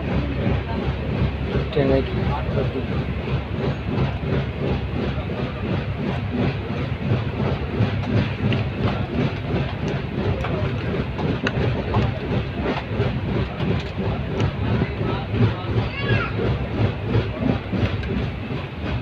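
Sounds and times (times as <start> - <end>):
train rumbling: 0.0 - 19.0
wheels clattering over rails: 0.0 - 19.0.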